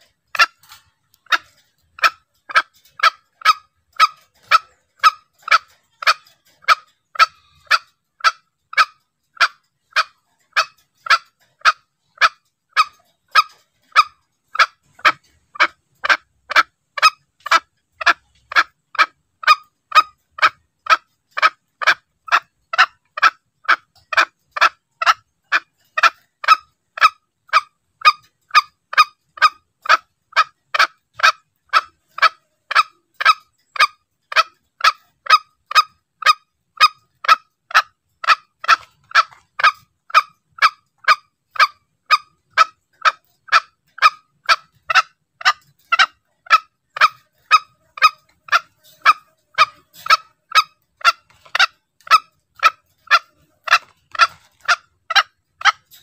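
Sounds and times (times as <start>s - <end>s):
junglefowl calling: 0.0s - 56.0s.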